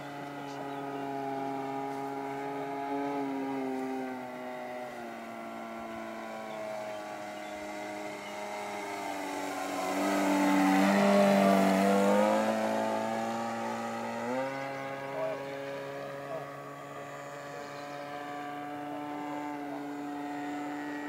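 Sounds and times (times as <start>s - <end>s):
model airplane motor: 0.0s - 21.0s.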